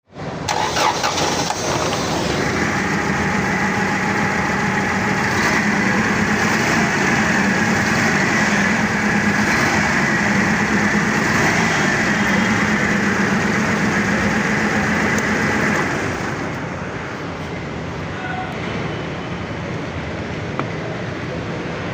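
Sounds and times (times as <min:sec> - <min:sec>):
forklift engine running: 0:00.2 - 0:18.0.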